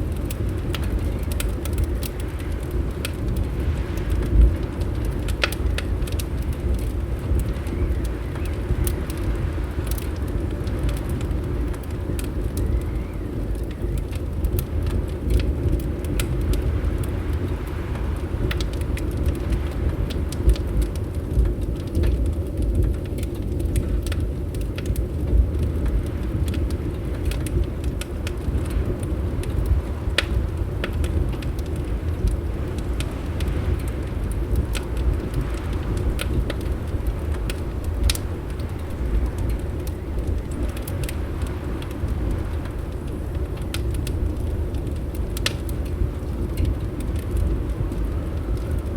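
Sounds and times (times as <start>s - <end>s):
fire crackling and popping: 0.0s - 48.9s
low rumble of wind: 0.0s - 48.9s.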